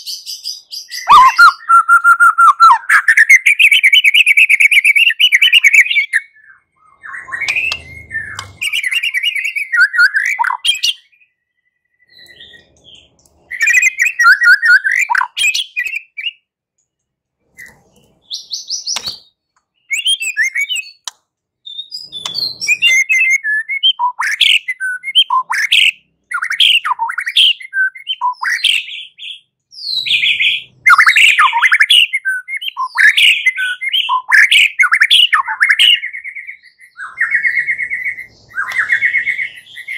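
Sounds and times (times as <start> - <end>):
songbird whistling: 0.0 - 16.5, 17.5 - 39.9.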